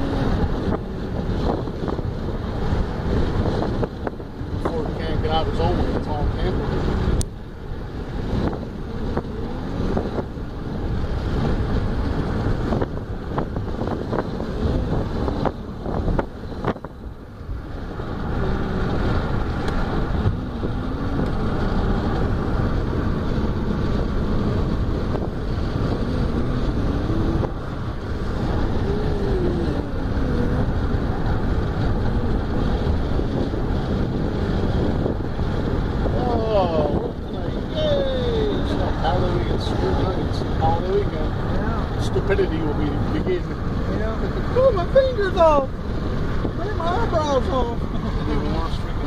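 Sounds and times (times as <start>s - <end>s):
faint engine hum: 0.0s - 49.0s
tyre and road noise: 0.0s - 49.0s
wind buffeting microphone: 0.0s - 49.0s.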